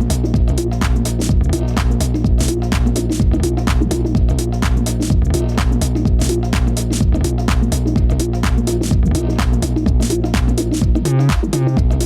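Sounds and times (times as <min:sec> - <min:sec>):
electronic music with driving beat: 0:00.0 - 0:12.0.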